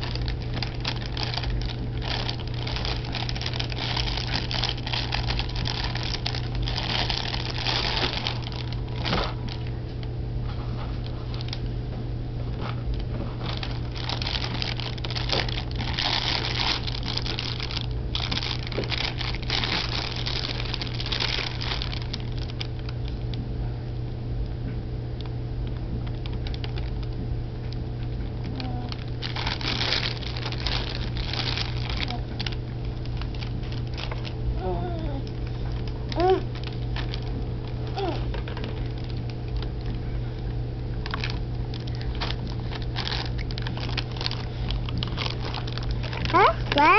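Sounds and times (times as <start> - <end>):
plastic bag crinkling: 0.0 - 10.1, 10.7 - 11.7, 12.6 - 23.4, 26.0 - 27.2, 28.3 - 46.9
steady low hum: 0.0 - 46.9.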